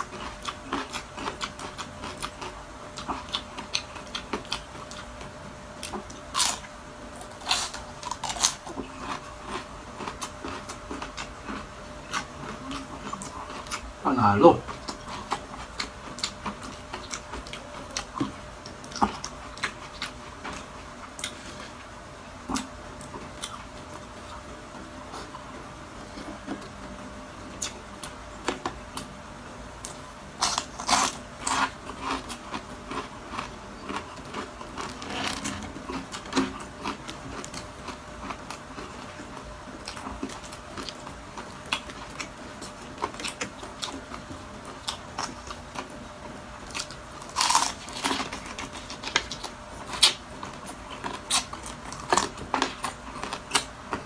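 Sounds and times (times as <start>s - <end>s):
crunching and chewing crispy food: 0.0s - 54.0s.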